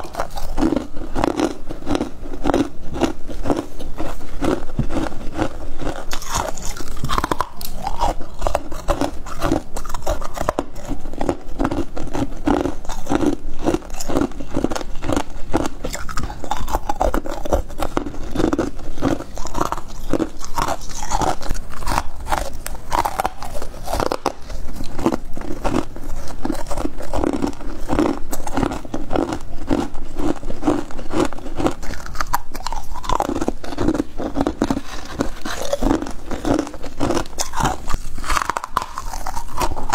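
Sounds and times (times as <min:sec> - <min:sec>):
frost being crunched and chewed: 0:00.0 - 0:39.9.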